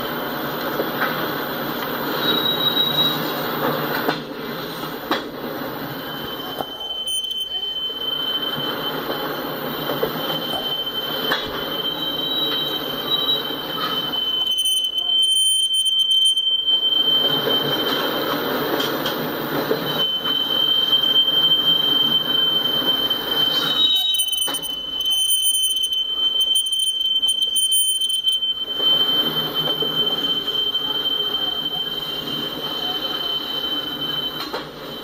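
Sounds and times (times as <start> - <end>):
rumble of rail cars: 0.1 - 5.6, 6.2 - 15.1, 16.8 - 25.0, 28.6 - 35.0
train wheels squealing: 2.1 - 5.1, 5.7 - 35.0.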